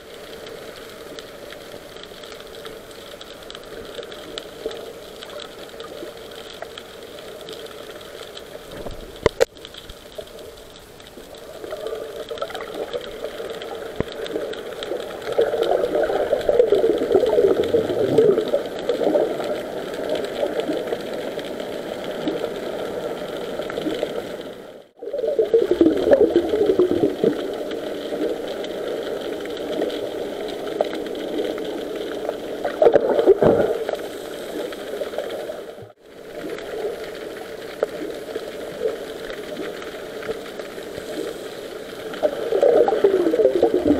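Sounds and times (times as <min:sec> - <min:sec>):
underwater hum: 0:00.0 - 0:43.9
water swirling around housing: 0:00.0 - 0:43.9.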